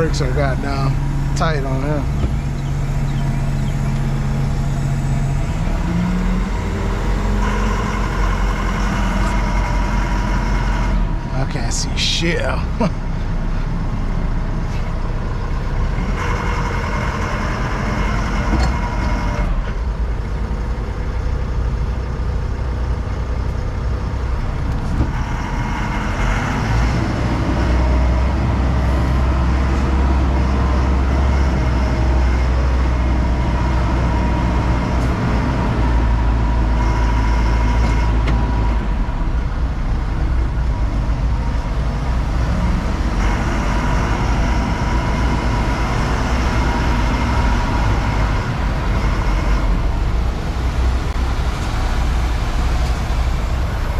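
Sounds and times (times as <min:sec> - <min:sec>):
diesel engine rumbling: 0:00.0 - 0:53.9.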